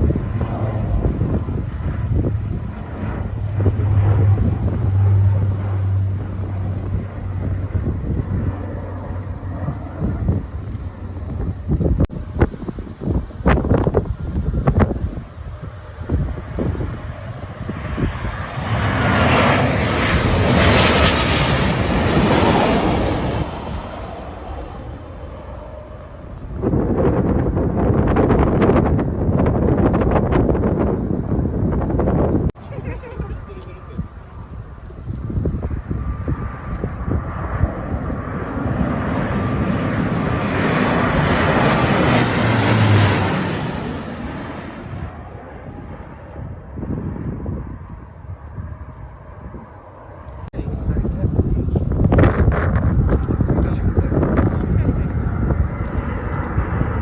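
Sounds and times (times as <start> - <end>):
jet airliner passing overhead: 0.0 - 57.0
wind buffeting microphone: 0.0 - 57.0.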